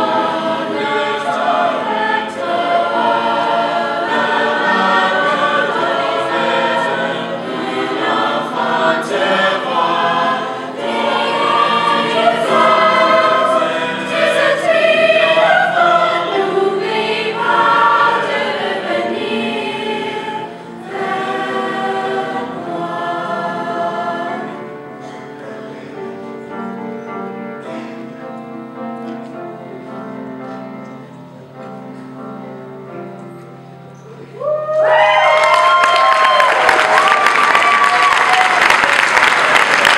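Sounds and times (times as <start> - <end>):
choir singing in harmony: 0.0 - 29.0, 34.8 - 39.9.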